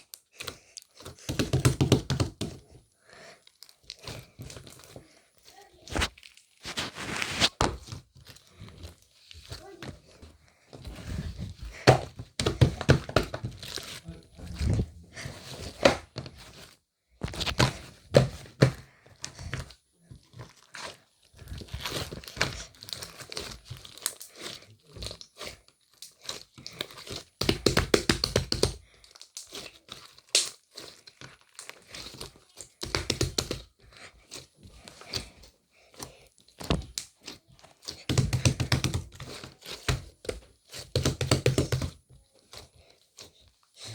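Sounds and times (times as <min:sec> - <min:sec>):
crinkling and rustling: 0:00.0 - 0:43.9.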